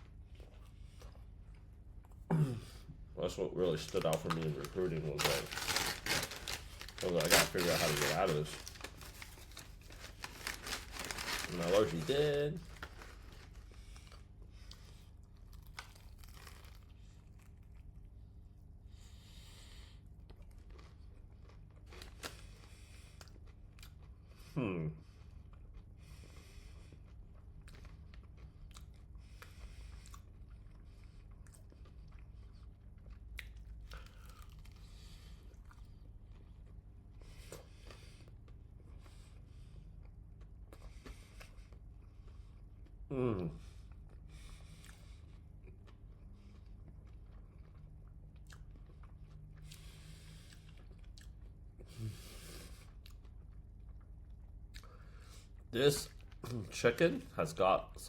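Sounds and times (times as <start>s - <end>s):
person chewing crispy food: 0.0s - 2.8s, 3.5s - 56.8s
crunching fried chicken: 3.5s - 18.1s, 20.2s - 56.8s.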